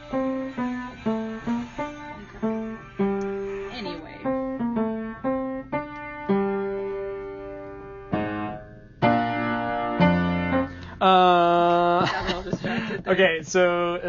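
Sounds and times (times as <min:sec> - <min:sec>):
piano slow melody: 0:00.0 - 0:12.9
piano chords: 0:00.0 - 0:13.0.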